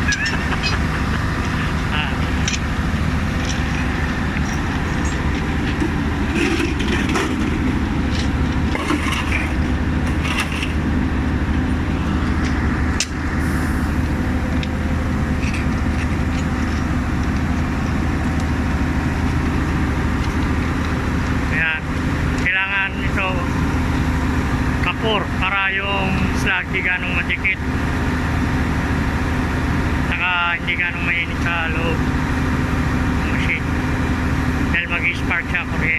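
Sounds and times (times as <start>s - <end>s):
welding machine engine running: 0.0s - 35.9s.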